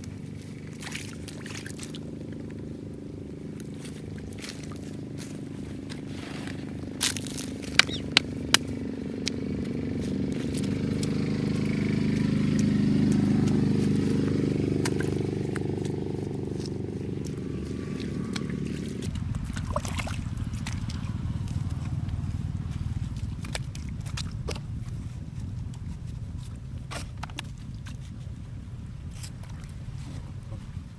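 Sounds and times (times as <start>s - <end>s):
small engine running: 0.0s - 30.8s
hands squelching wet mud: 0.0s - 30.9s.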